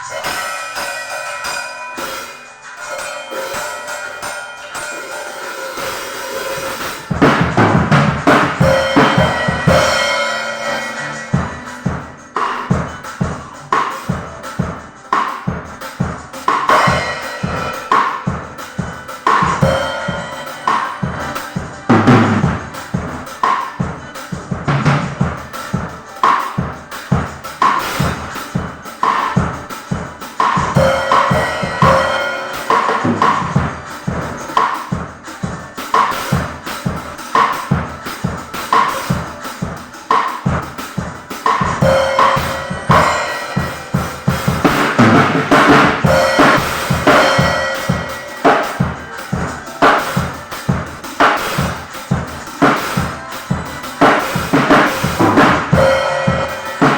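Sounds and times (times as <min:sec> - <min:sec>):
drum kit playing: 0:00.0 - 0:56.9.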